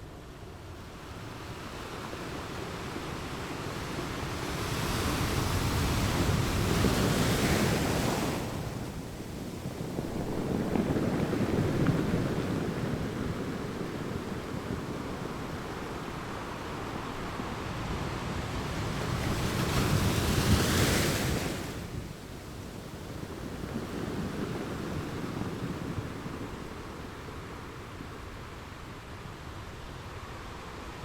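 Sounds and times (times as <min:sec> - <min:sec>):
wind buffeting microphone: 0:01.4 - 0:28.9
ocean waves breaking: 0:02.2 - 0:28.7.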